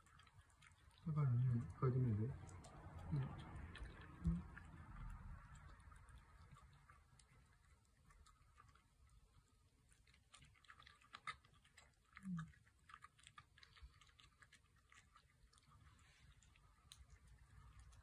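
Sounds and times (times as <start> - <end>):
puppy chewing food: 0.0 - 18.0.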